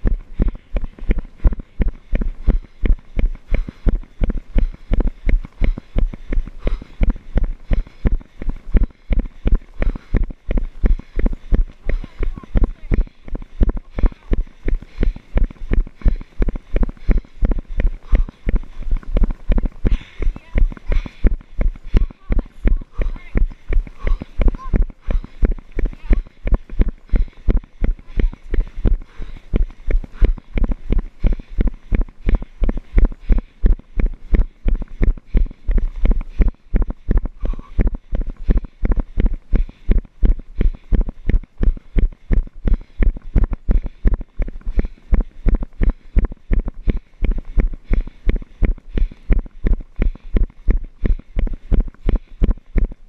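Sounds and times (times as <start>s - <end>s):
running footsteps on gravel: 0.0s - 53.0s.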